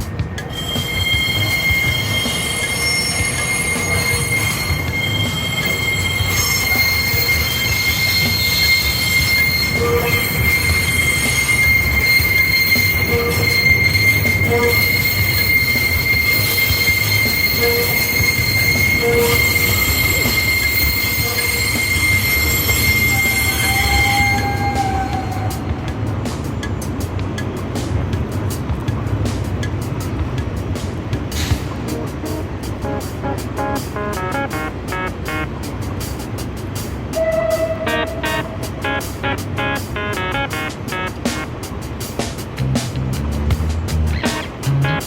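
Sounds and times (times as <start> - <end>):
train running rumble: 0.0 - 45.0
train wheels squealing on rails: 0.0 - 45.0.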